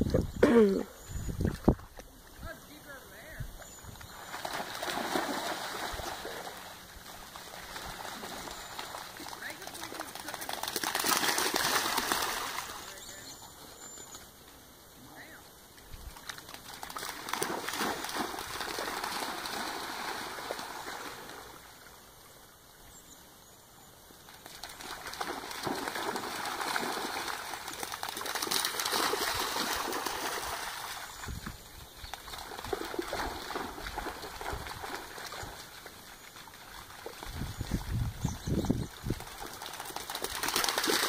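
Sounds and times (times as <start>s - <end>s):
dogs splashing through water: 1.4s - 14.2s, 15.7s - 21.8s, 24.2s - 41.0s.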